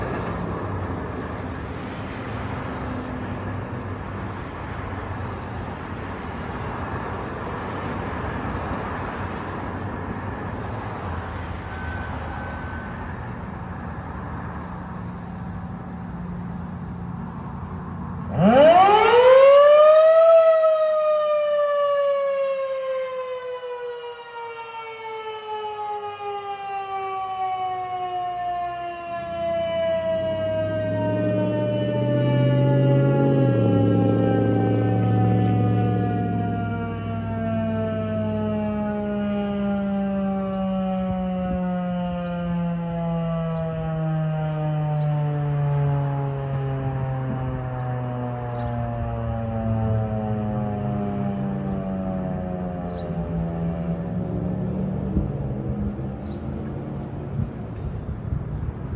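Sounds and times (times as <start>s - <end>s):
warning siren winding up and down: 5.2s - 15.6s, 17.6s - 58.8s.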